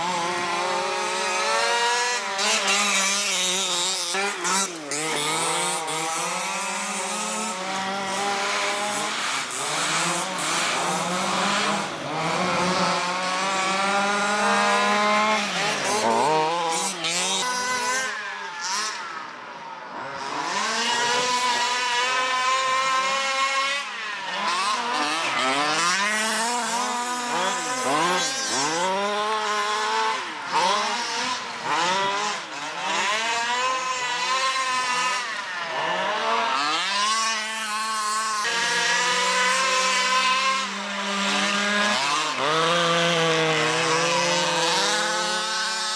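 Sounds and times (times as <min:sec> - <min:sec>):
rc car engines buzzing and revving: 0:00.0 - 0:45.9.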